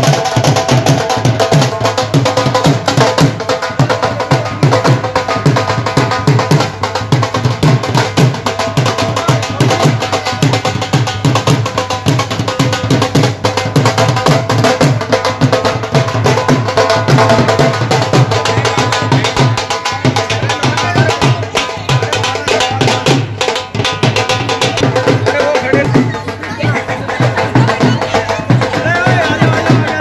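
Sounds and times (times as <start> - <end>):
dhol drums: 0.0 - 30.0.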